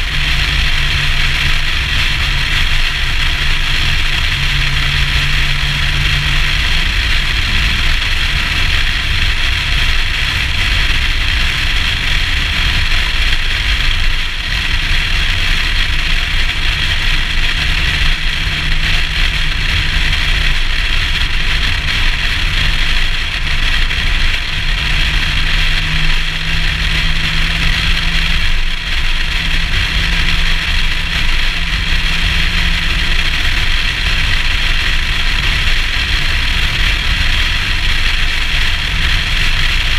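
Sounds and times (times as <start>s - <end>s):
low engine drone: 0.0s - 39.9s
road noise: 0.0s - 39.9s
wind rush: 0.0s - 39.9s.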